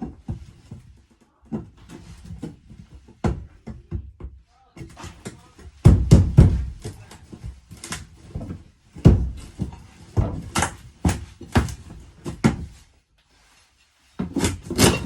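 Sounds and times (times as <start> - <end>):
knocks and thuds against wall: 0.0 - 12.8.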